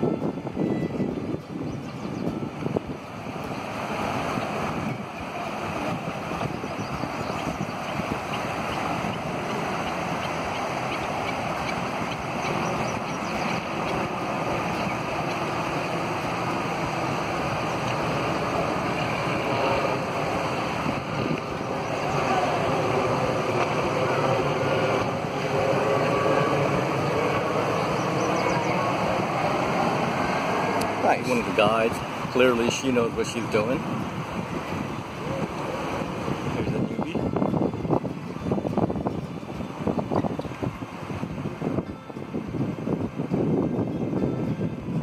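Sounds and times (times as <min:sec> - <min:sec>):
river water rushing over rocks: 0:01.9 - 0:45.0.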